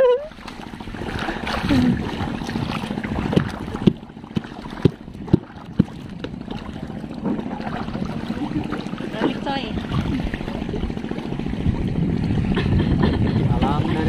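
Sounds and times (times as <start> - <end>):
footsteps wading through water: 0.0 - 14.0
low rumble of water and boats: 0.0 - 14.0.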